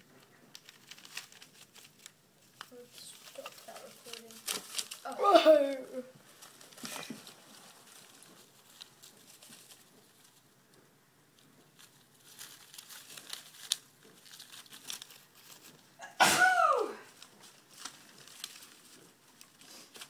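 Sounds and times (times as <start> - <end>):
paper bedding rustling: 0.5 - 10.6, 11.4 - 16.0, 16.7 - 20.0.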